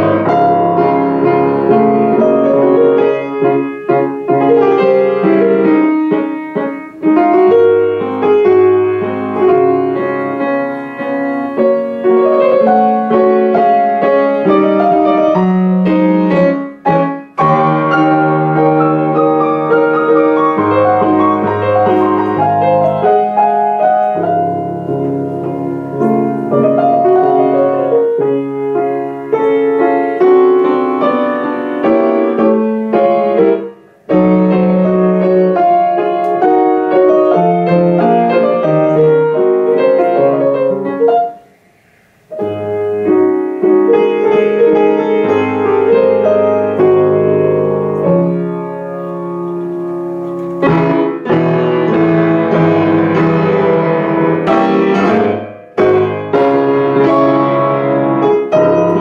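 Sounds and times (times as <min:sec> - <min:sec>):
grand piano classical piece: 0:00.0 - 0:59.0.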